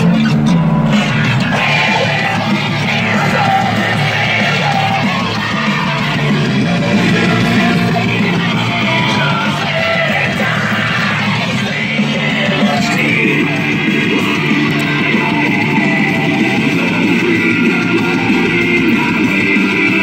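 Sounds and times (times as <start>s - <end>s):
rock music with shouted vocals: 0.0s - 20.0s.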